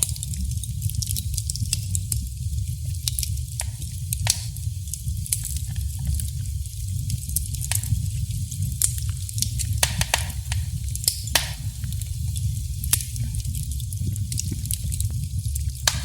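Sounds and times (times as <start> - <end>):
fire hissing: 0.0 - 16.0
wood fire crackling: 0.0 - 16.0.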